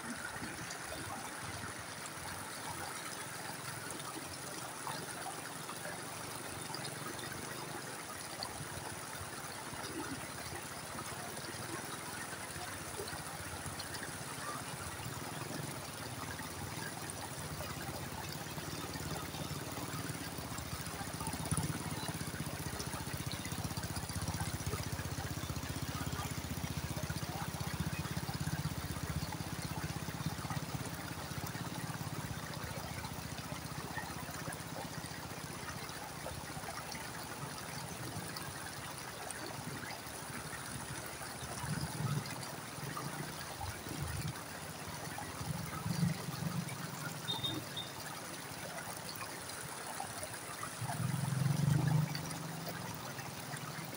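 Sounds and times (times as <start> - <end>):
creek water trickling over rocks: 0.0 - 53.9.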